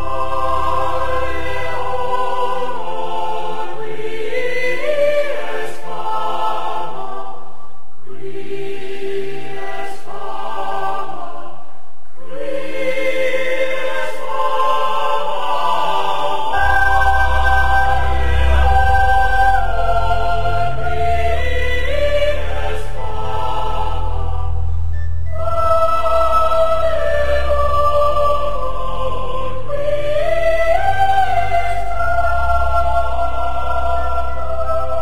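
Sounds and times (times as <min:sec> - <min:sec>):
sustained choral chords: 0:00.0 - 0:35.0.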